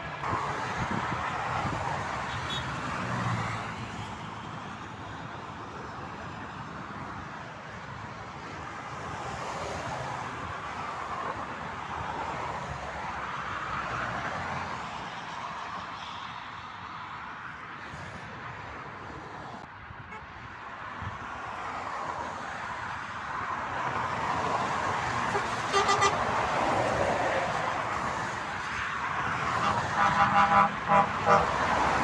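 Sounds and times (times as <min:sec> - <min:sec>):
vehicles passing at speed: 0:00.0 - 0:32.0.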